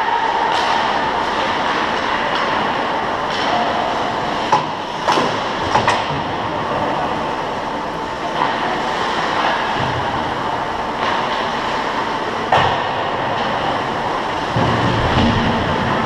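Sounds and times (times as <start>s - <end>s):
hockey sticks and puck clacking: 0.0s - 6.2s, 8.2s - 10.0s, 10.9s - 15.9s.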